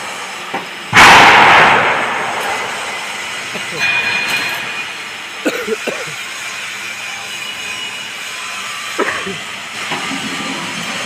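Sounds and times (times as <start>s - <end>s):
welding machinery hissing: 0.0s - 11.0s.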